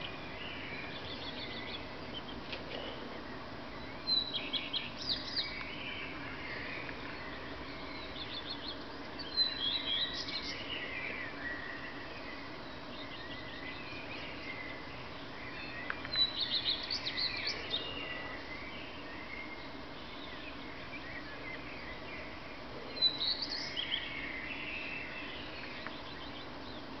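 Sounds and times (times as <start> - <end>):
redstart singing: 0.0 - 2.5, 3.1 - 27.0
faint background birdsong: 0.0 - 27.0.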